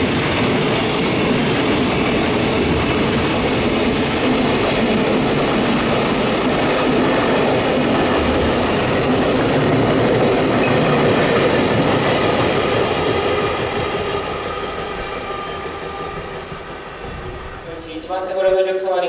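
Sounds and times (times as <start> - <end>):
freight train wheels on rails: 0.0 - 18.7.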